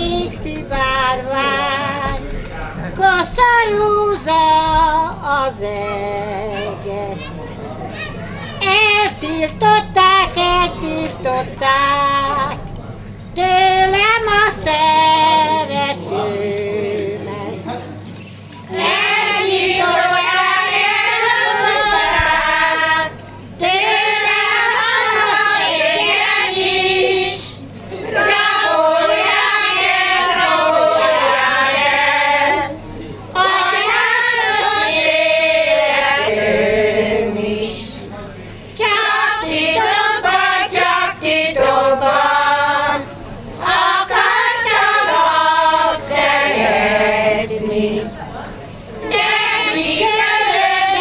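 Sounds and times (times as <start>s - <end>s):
women's choir singing: 0.0s - 7.2s, 8.6s - 12.6s, 13.4s - 17.7s, 18.6s - 38.1s, 38.8s - 51.0s.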